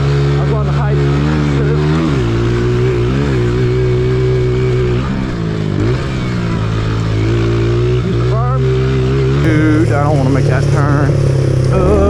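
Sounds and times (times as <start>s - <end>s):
pit bike engine running: 0.0s - 12.0s.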